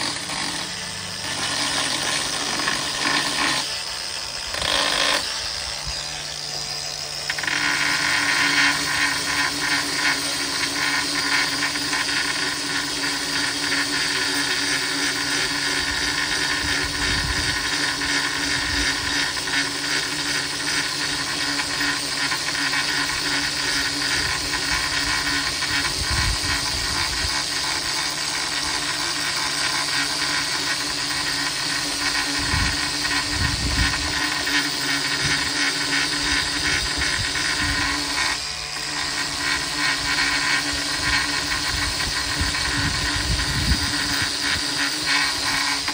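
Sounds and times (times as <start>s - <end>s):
angle grinder grinding metal: 0.0s - 45.9s.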